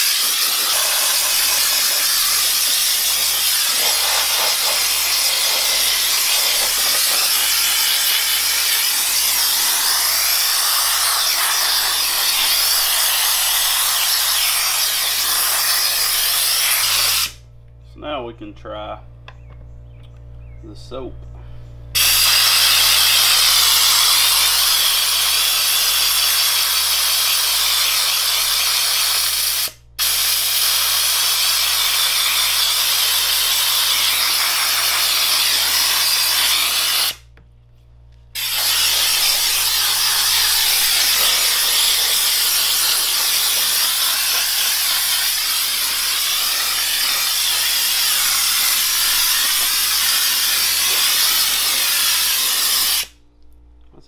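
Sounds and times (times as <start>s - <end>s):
spray wand hissing water: 0.0s - 17.4s, 22.0s - 37.2s, 38.4s - 53.1s.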